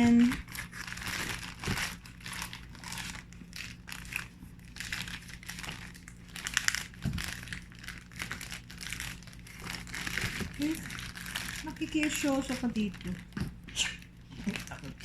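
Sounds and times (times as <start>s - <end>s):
packaging crinkling and rustling: 0.0s - 13.6s, 14.3s - 15.0s
low steady hum: 0.0s - 15.0s.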